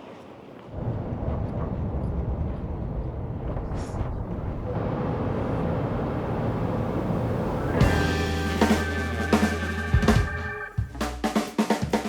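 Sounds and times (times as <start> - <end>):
traffic rumble: 0.3 - 11.0.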